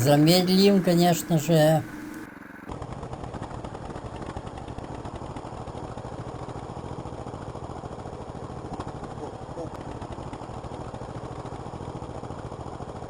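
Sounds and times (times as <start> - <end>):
small tractor engine popping: 0.0 - 13.0.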